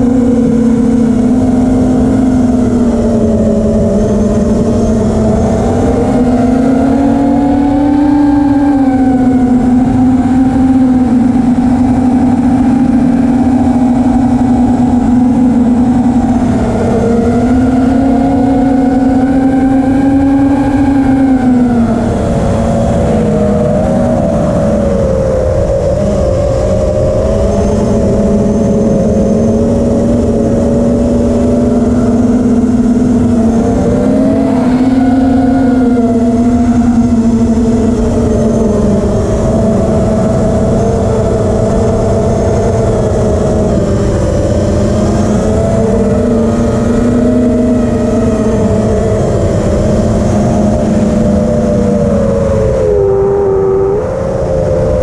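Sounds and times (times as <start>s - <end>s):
drone motors whining: 0.0s - 55.0s
wind on microphone: 0.0s - 55.0s.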